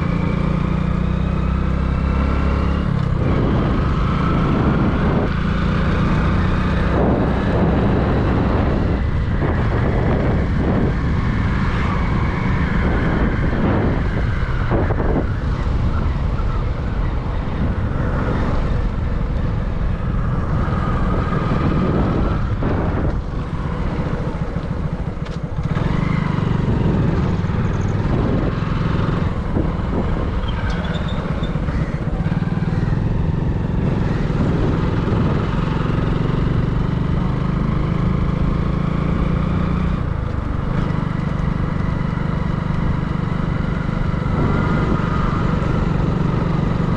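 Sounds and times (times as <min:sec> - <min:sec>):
motor vehicle engine rumble: 0:00.0 - 0:46.9.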